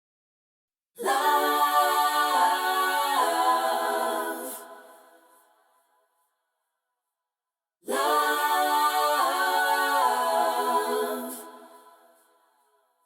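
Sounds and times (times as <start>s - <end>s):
a cappella vocal harmony: 1.0s - 6.4s, 7.8s - 13.0s.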